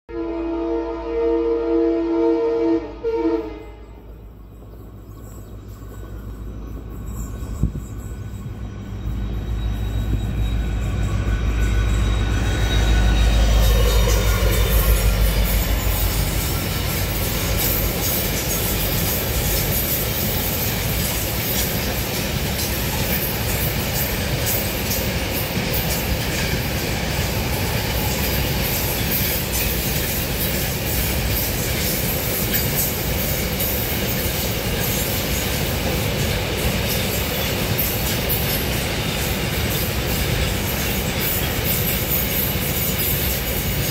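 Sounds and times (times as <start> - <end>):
diesel locomotive engine under load: 0.1 - 43.9
high wheel squeal on rails: 2.6 - 43.9
train wheels clattering: 4.2 - 43.9.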